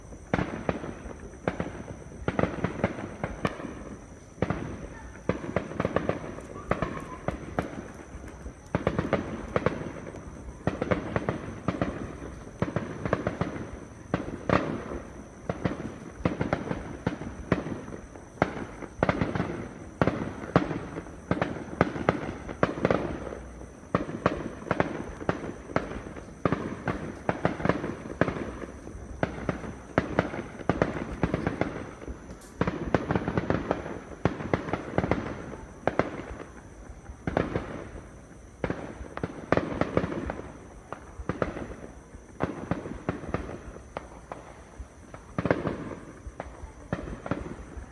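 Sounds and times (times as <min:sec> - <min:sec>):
fireworks bangs: 0:00.0 - 0:47.9
loud fireworks booms: 0:00.0 - 0:47.9.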